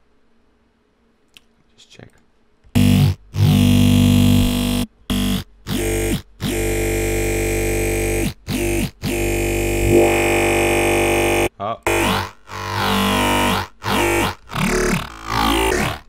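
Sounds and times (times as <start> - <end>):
synthesized dubstep bass notes: 2.7 - 16.0.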